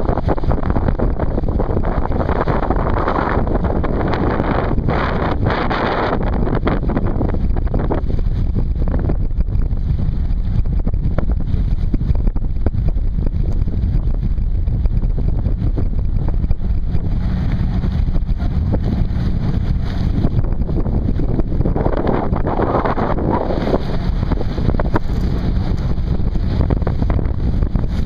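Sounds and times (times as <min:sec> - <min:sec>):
ship engine: 0:00.0 - 0:28.0
water noise: 0:00.0 - 0:28.0
wind buffeting microphone: 0:00.0 - 0:28.0.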